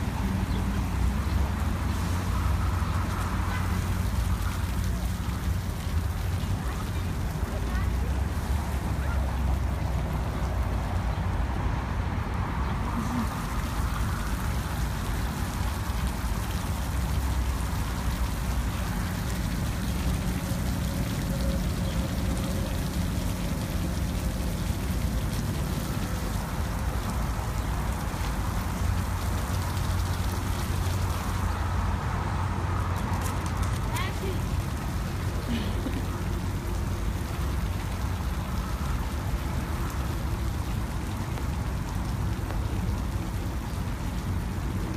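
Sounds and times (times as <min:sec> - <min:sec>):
sprinkler water pattering on ground: 0:00.0 - 0:44.9.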